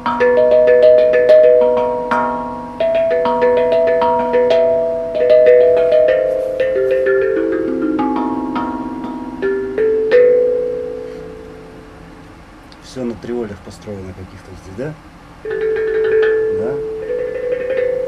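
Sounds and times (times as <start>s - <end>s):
struck percussion melody: 0.0s - 12.3s, 15.4s - 18.0s.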